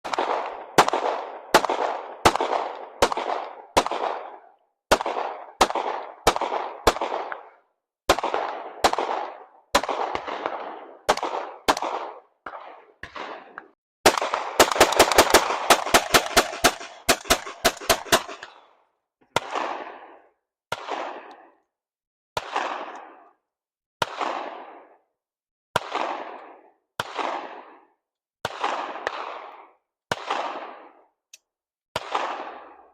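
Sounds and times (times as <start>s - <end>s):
echoing gunshots: 0.0s - 21.6s, 22.4s - 23.4s, 24.0s - 25.1s, 25.7s - 31.2s, 31.9s - 32.9s.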